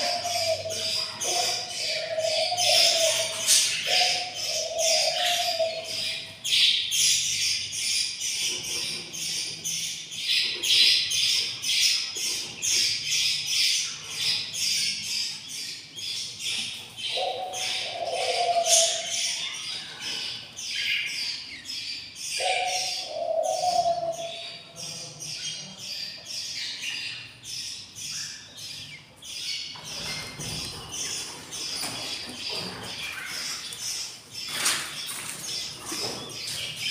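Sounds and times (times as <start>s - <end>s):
budgerigar chicks chirping: 0.0s - 36.9s.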